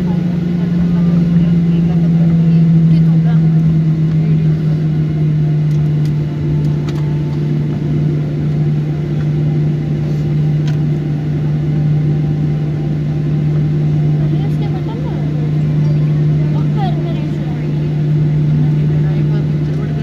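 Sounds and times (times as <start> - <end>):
jet engines humming: 0.0 - 20.0
low rumble: 0.0 - 20.0.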